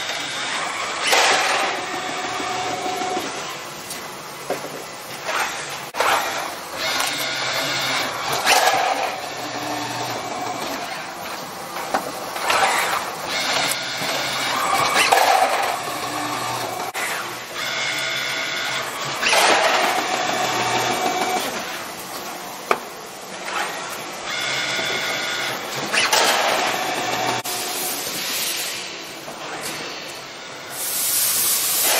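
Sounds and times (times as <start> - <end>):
high machine whine: 0.0 - 31.9
packing machine whirring and clattering: 0.0 - 31.9.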